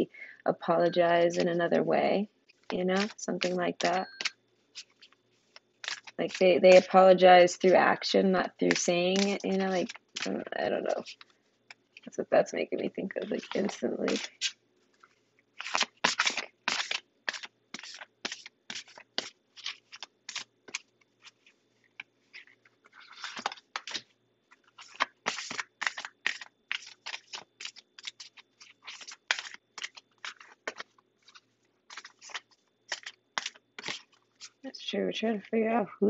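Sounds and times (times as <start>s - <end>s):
cards being shuffled: 2.5s - 6.9s, 8.7s - 12.1s, 13.2s - 34.6s.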